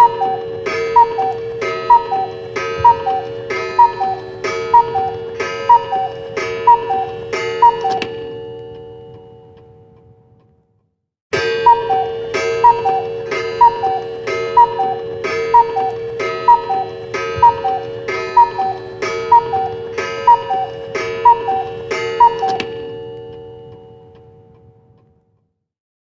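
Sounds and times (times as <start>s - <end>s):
cuckoo clock calls: 0.0s - 8.9s, 11.4s - 23.9s
ringing tone: 0.0s - 9.8s, 11.4s - 24.1s.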